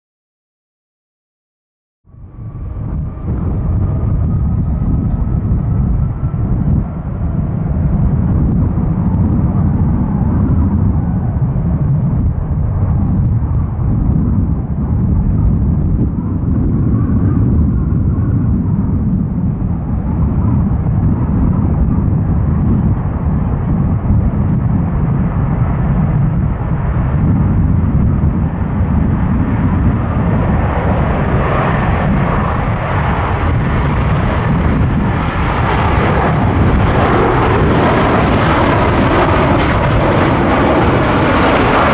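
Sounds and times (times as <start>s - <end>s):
jet engines heavy rumble: 2.0s - 41.9s
faint engine whine: 2.1s - 41.9s.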